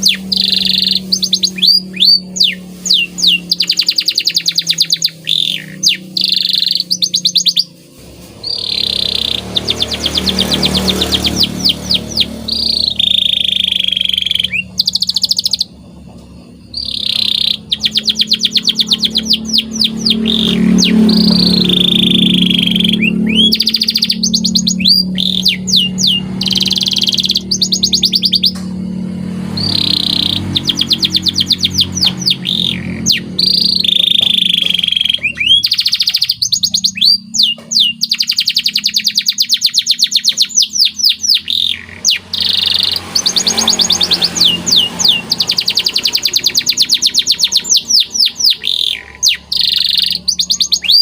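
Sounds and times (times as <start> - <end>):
canary singing trills: 0.0 - 51.0.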